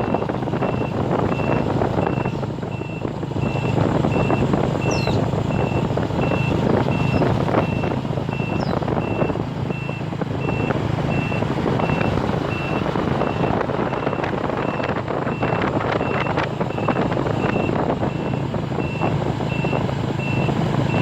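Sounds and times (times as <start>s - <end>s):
loud continuous rumbling: 0.0s - 21.0s.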